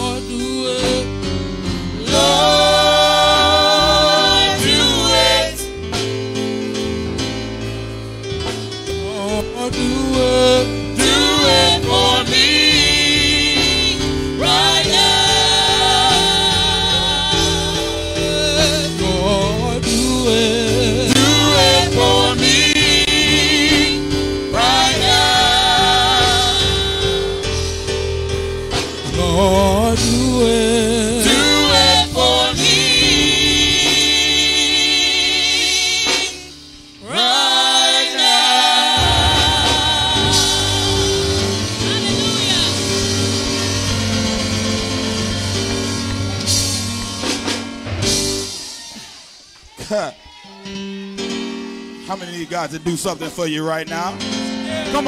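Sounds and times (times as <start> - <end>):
gospel singing: 0.0 - 7.2, 9.0 - 49.2, 52.4 - 55.0
instrumental backing: 0.0 - 55.0.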